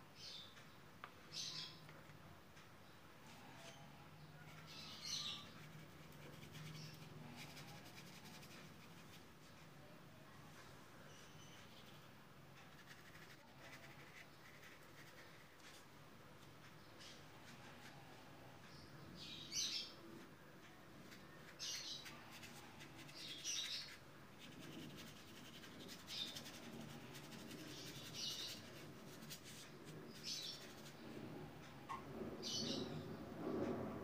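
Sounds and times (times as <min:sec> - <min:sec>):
bird chirping faintly: 0:00.0 - 0:33.4.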